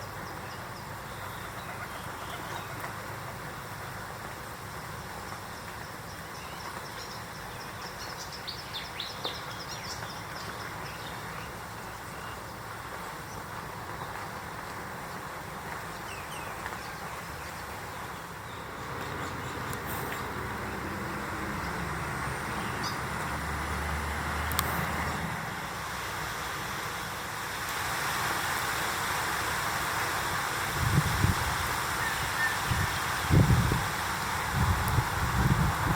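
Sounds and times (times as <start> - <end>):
low rumbling background noise: 0.0 - 35.9.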